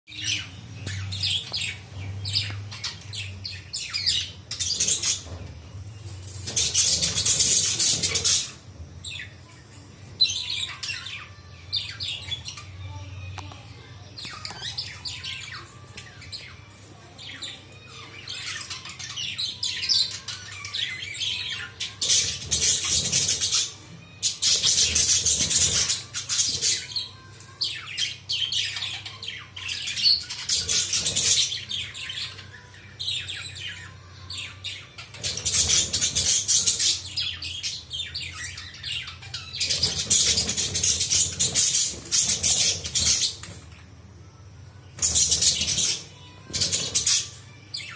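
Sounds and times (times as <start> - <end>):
budgerigars chirping and squawking: 0.1 - 44.0, 45.0 - 47.9.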